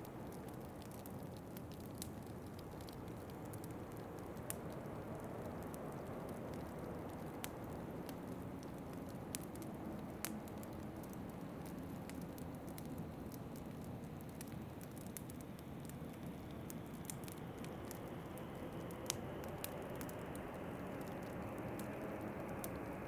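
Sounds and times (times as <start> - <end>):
low rumble of wind: 0.0 - 23.0
wood fire crackling and popping: 0.0 - 23.0.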